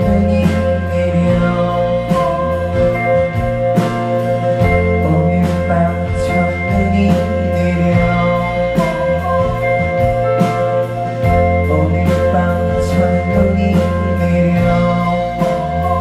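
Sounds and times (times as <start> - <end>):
bass line: 0.0 - 16.0
drum kit beat: 0.0 - 16.0
guitar chords: 0.0 - 16.0
keyboard chords: 0.0 - 16.0.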